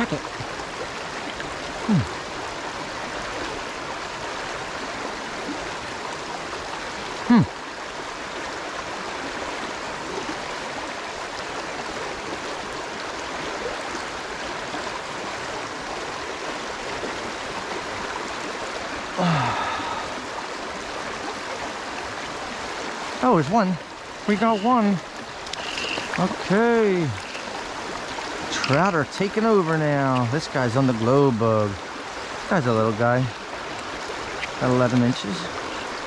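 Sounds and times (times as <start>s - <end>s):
stream flowing: 0.0s - 36.0s.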